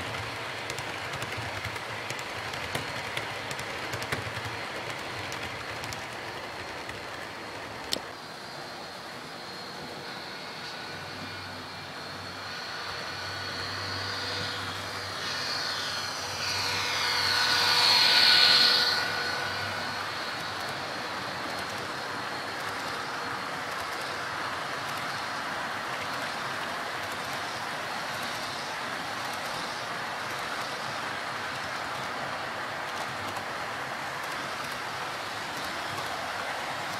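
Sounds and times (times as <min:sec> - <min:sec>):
train cars rolling over track: 0:00.0 - 0:09.2, 0:13.7 - 0:36.9
model train motor whine and rumble: 0:00.0 - 0:36.9.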